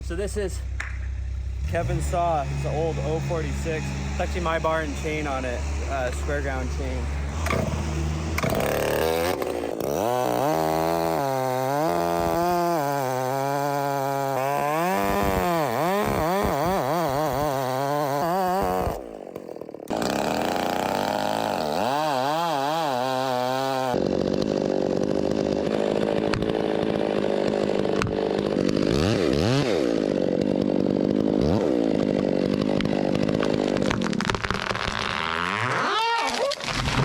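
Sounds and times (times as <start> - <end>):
chainsaw revving: 0.0 - 37.0
chainsaw cutting wood: 0.1 - 37.0.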